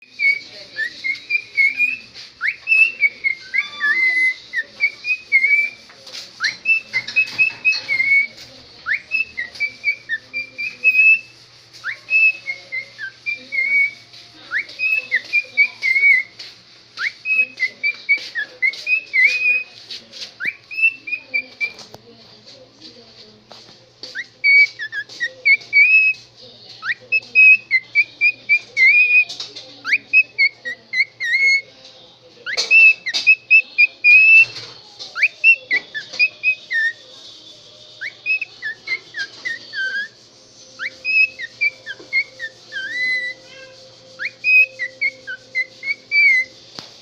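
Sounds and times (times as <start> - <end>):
cockatiel whistling: 0.0 - 16.4, 17.0 - 19.8, 20.4 - 21.9, 24.1 - 31.7, 32.4 - 37.0, 38.0 - 46.6.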